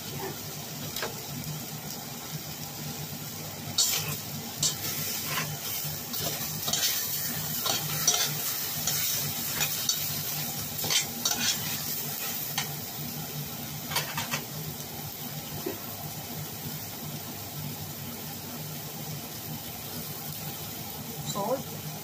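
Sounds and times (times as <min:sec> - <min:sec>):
chicken sizzling in a pot: 0:00.0 - 0:22.0.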